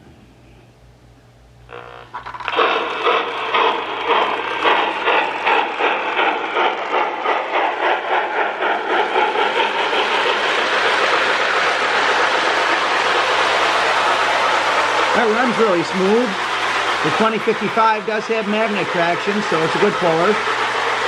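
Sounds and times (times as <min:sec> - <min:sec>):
model train steam chuffing: 0:01.7 - 0:21.0.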